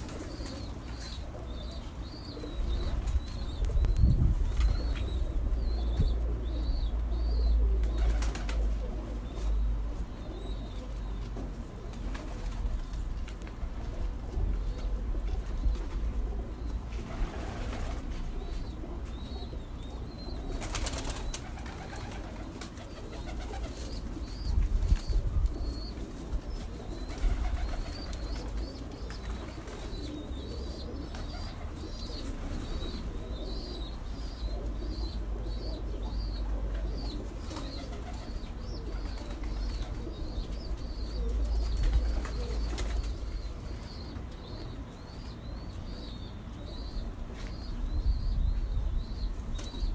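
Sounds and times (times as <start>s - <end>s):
bird cooing: 0.0s - 12.7s, 14.3s - 47.2s.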